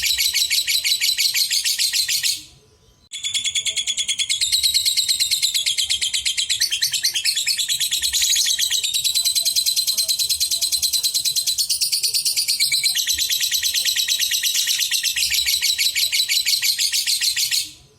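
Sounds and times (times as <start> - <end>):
lovebird chattering song: 0.0 - 17.8.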